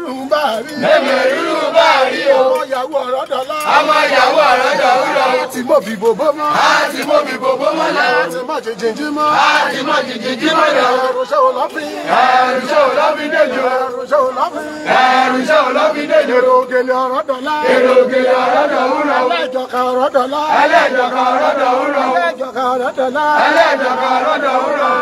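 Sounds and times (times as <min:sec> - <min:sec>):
crowd of men chanting: 0:00.0 - 0:25.0.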